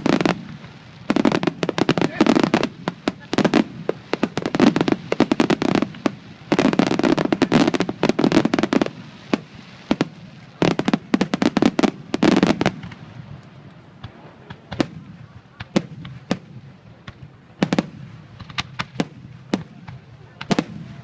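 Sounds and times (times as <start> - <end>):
fireworks crackling pops: 0.0 - 21.0.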